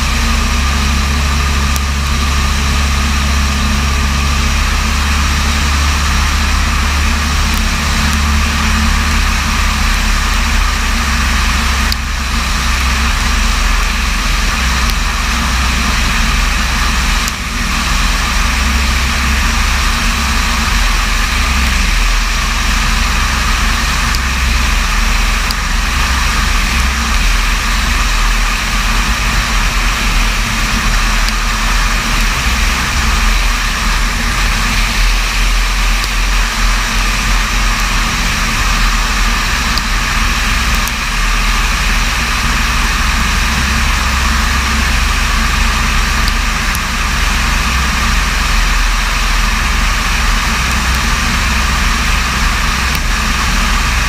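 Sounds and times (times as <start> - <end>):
airflow noise: 0.0 - 54.0
light aircraft engine drone: 0.0 - 54.0.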